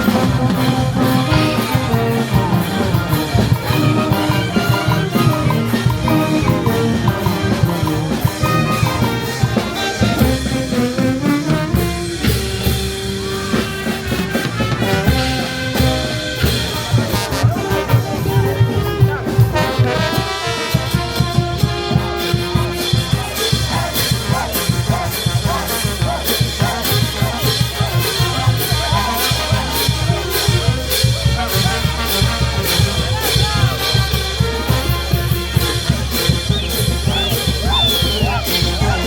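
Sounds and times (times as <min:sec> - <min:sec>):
steady drum beat: 0:00.0 - 0:39.0
trumpets and trombones: 0:00.0 - 0:39.0.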